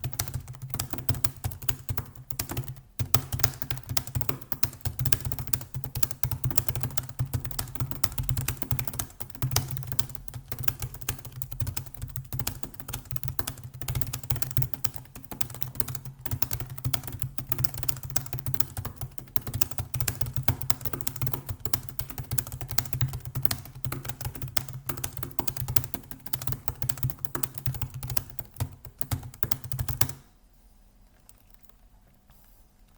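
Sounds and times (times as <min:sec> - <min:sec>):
fast typing on keyboard: 0:00.0 - 0:30.3.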